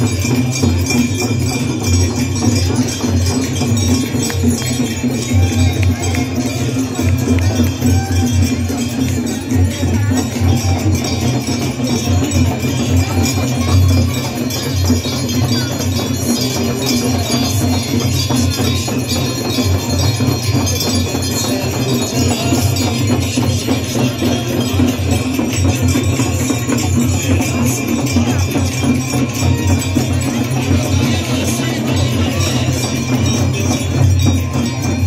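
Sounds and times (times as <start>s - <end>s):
hand bells ringing: 0.0s - 35.0s.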